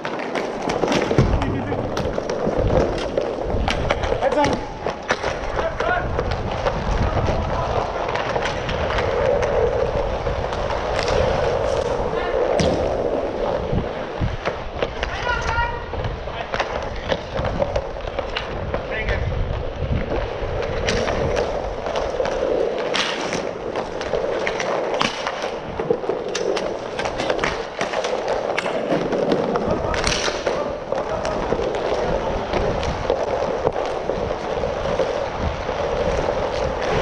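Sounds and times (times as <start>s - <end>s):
skate wheels rolling on plastic: 0.0s - 37.0s
sticks and puck clacking: 0.0s - 37.0s.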